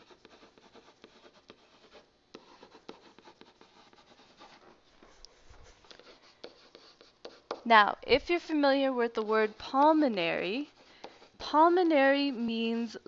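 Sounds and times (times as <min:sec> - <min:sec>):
pen scratching while writing: 0:00.0 - 0:07.6, 0:08.8 - 0:12.4.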